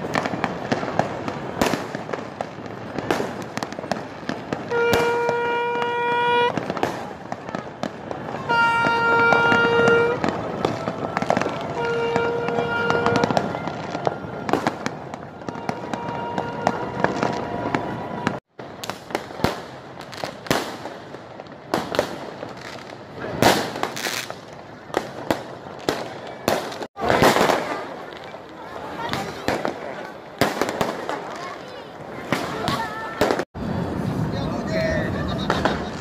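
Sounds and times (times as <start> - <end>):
crowd voices: 0.0 - 36.0
fireworks bangs and crackles: 0.0 - 36.0.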